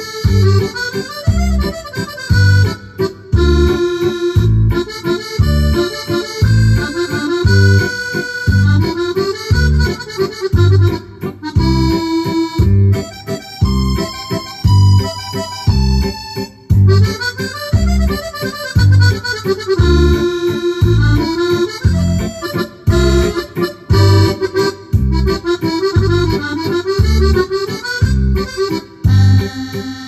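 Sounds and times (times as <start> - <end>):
accordion waltz on keyboard: 0.0 - 30.0
bass and drums beat: 0.0 - 30.0.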